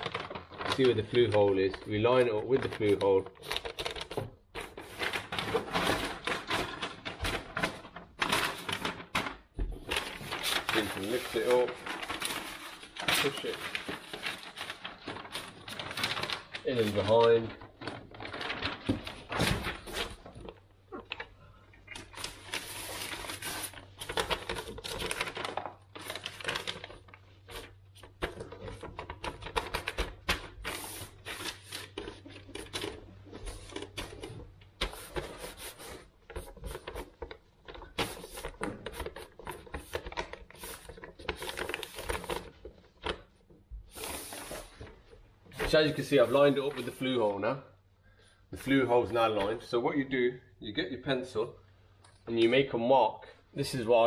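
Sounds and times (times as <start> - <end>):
paper crinkling and rustling: 0.0 - 47.5, 48.5 - 49.8.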